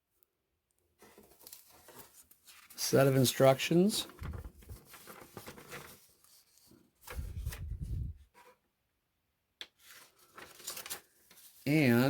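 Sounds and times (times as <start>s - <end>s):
paper rustling: 1.0s - 8.5s, 9.8s - 12.0s.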